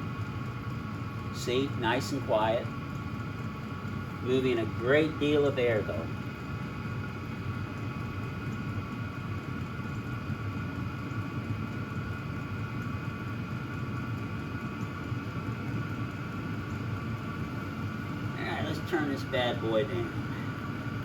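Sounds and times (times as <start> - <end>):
blower fan rushing: 0.0 - 21.0
faint steady whine: 0.0 - 21.0.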